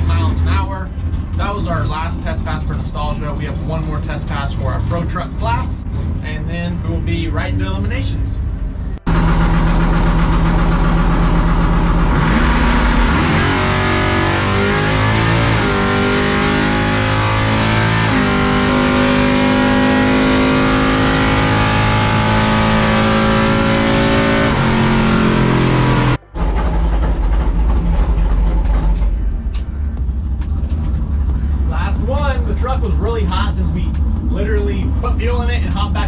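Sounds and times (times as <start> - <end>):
truck engine accelerating hard: 0.0 - 36.0.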